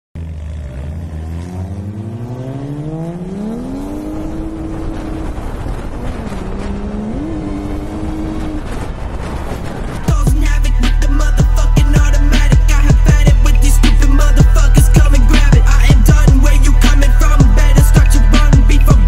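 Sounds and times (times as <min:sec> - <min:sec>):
car engine revving: 0:00.2 - 0:19.0
road and tyre noise: 0:00.2 - 0:19.0.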